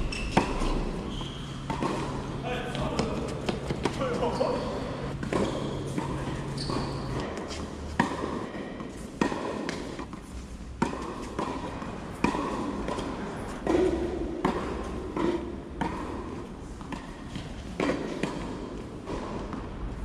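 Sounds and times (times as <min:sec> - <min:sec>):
tennis ball struck by rackets: 0:00.0 - 0:04.0, 0:05.1 - 0:19.8
tennis ball bouncing on court: 0:00.0 - 0:20.0.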